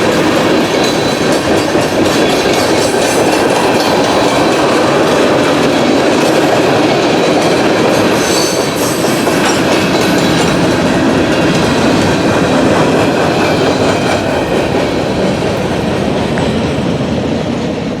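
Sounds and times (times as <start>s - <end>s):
clickety-clack over rail joints: 0.0s - 18.0s
freight cars rolling on rails: 0.0s - 18.0s.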